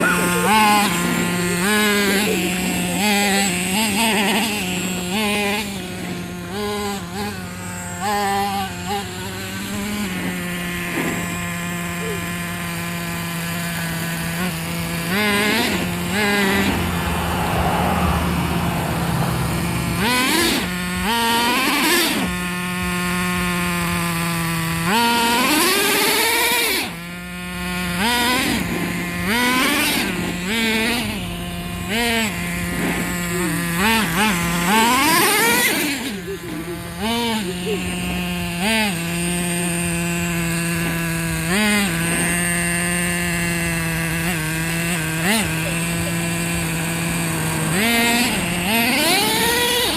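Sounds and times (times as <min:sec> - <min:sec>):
toy truck motor revving: 0:00.0 - 0:49.9.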